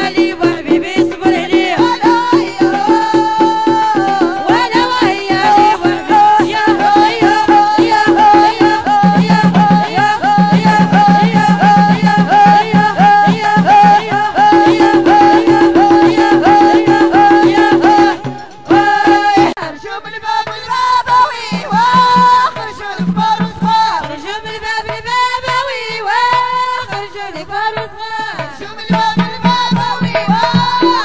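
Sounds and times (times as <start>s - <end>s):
folk drum rhythm: 0.0s - 31.0s.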